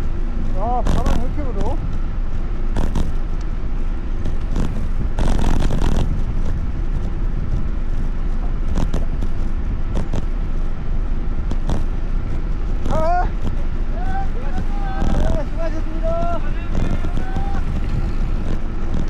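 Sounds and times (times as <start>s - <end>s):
wind and road noise rumble: 0.0s - 19.0s.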